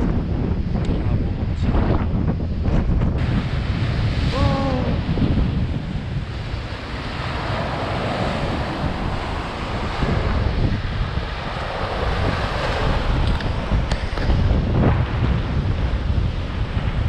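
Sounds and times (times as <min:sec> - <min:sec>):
wind buffeting microphone: 0:00.0 - 0:17.0
surf breaking over rocks: 0:02.6 - 0:17.0.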